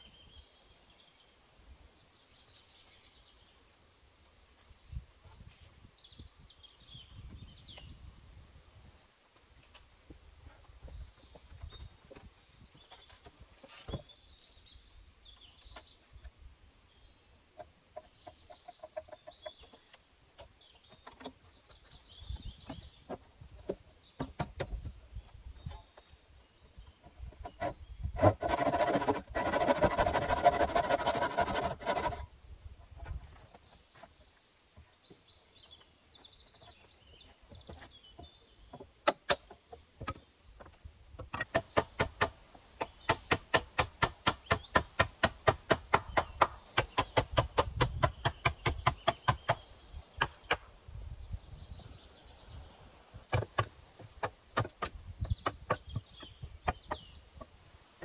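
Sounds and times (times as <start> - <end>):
small birds chirping: 8.9 - 58.0.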